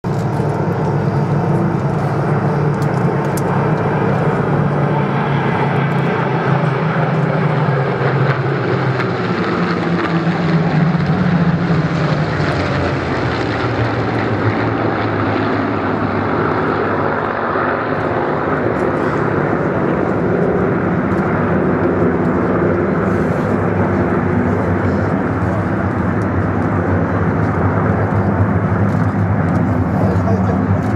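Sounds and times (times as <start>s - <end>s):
propeller plane engine droning: 0.0s - 30.9s.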